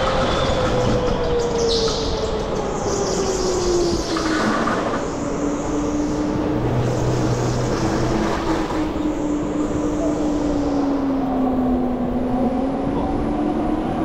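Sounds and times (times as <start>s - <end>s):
rushing noise of moving kart: 0.0s - 14.0s.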